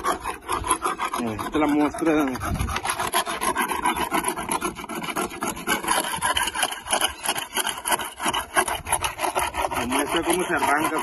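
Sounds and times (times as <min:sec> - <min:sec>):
scraping shells off a boat hull: 0:00.0 - 0:11.0.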